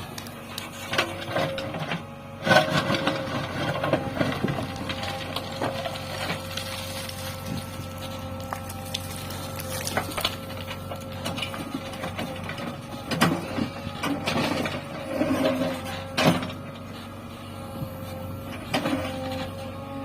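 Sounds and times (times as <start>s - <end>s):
diesel engine running with whine: 0.0s - 20.0s.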